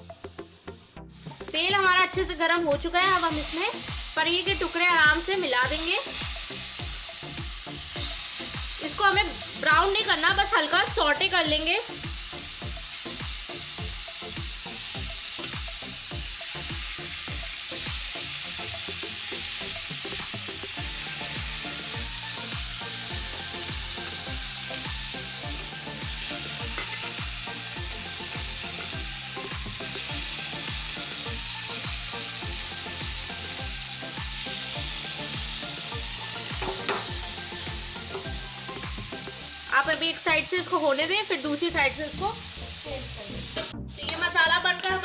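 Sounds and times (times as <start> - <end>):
cheese cubes sizzling in oil: 0.0 - 45.0.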